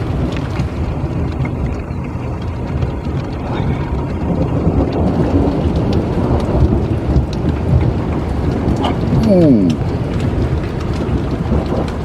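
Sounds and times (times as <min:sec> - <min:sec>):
rolling thunder: 0:00.0 - 0:12.0
steady rain: 0:00.0 - 0:12.0.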